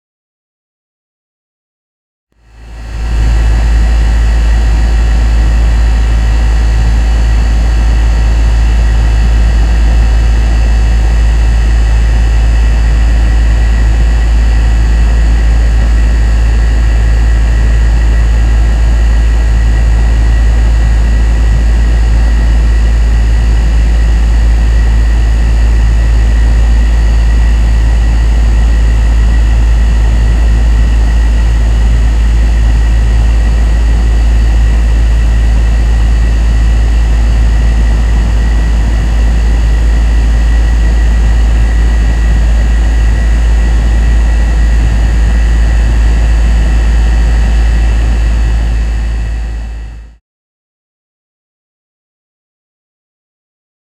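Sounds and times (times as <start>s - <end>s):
air conditioner humming: 2.4s - 50.0s.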